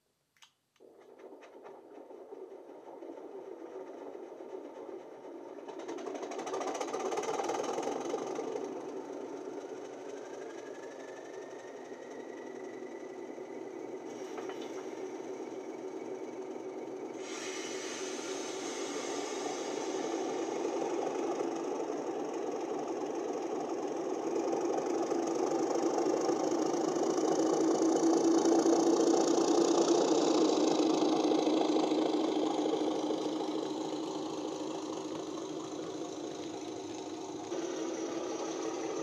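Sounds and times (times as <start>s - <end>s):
diesel engine drone from small speaker: 1.1s - 39.0s.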